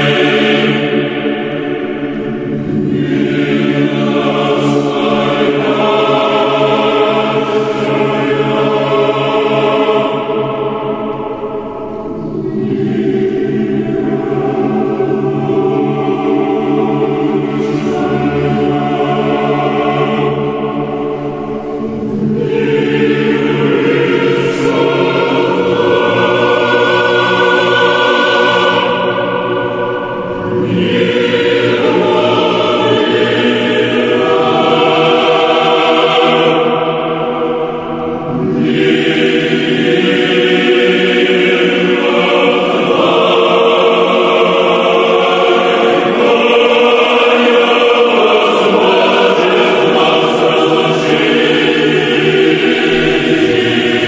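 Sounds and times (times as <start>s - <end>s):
choir singing slow chant: 0.0s - 54.0s.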